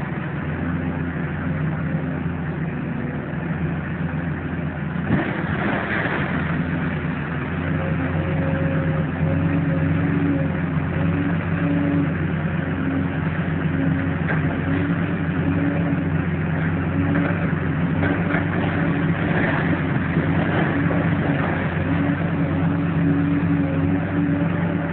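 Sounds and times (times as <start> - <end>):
machinery engine running: 0.0 - 24.9.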